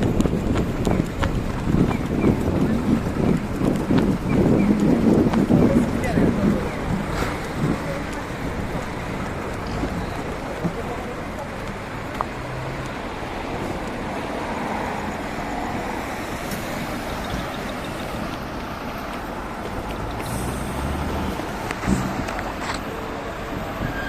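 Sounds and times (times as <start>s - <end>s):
truck engines rumbling: 0.0s - 24.0s.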